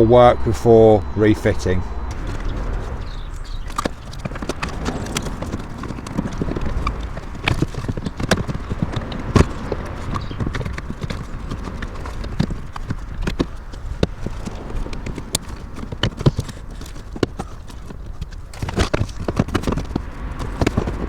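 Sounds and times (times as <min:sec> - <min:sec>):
steady low rumble: 0:00.0 - 0:17.4
hollow knocks and clicks: 0:02.0 - 0:21.0.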